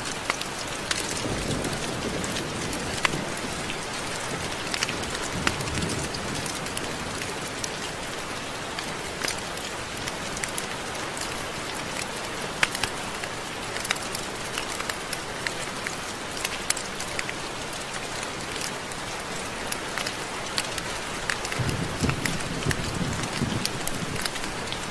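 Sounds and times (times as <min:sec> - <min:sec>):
raindrops ticking on surface: 0:00.0 - 0:24.9
steady rain hiss: 0:00.0 - 0:24.9.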